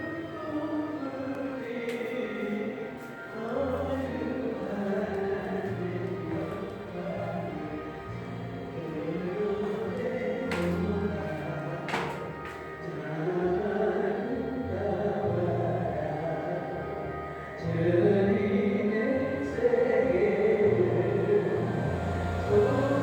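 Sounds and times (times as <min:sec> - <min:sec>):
worship music with singing voices: 0:00.0 - 0:23.0.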